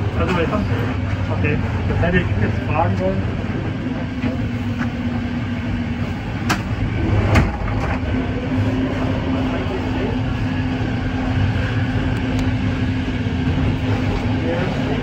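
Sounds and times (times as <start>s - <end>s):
constant hum: 0.0s - 15.0s
wheels rumbling on rail: 0.0s - 15.0s.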